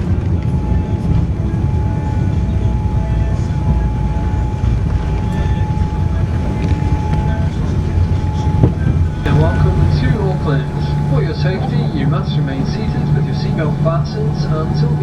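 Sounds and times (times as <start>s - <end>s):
cabin engine rumble: 0.0s - 15.0s
thin whine: 0.0s - 15.0s.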